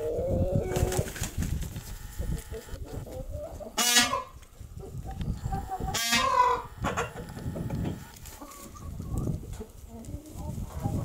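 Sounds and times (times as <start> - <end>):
faint chicken clucking: 0.0 - 1.0, 1.8 - 11.0
chickens calling loudly: 0.0 - 11.0.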